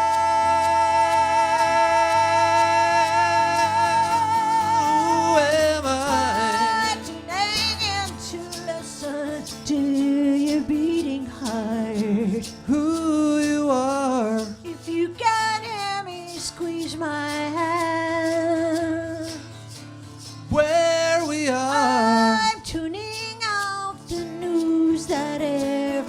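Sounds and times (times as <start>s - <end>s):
guitar accompaniment: 0.0s - 26.0s
person singing with vibrato: 0.0s - 26.0s.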